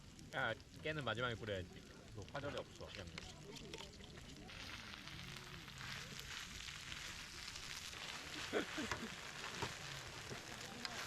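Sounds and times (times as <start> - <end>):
rice sizzling in a hot pan: 0.0 - 11.0.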